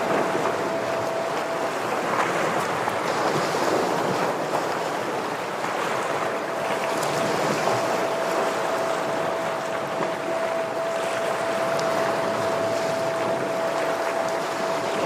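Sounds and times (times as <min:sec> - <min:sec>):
sea waves washing on rocks: 0:00.0 - 0:15.0.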